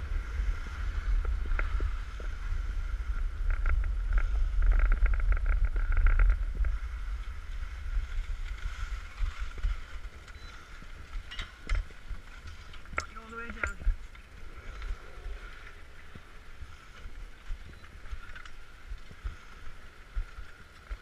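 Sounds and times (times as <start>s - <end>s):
skis scraping on snow: 0.0s - 21.0s
wind rumbling on microphone: 0.0s - 21.0s.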